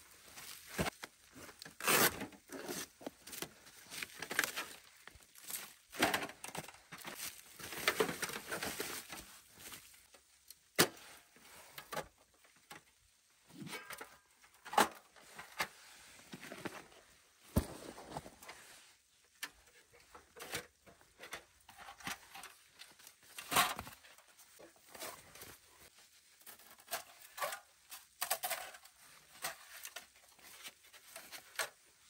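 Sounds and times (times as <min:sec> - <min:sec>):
thin metal rustling and scraping: 0:00.1 - 0:10.1, 0:13.6 - 0:32.0.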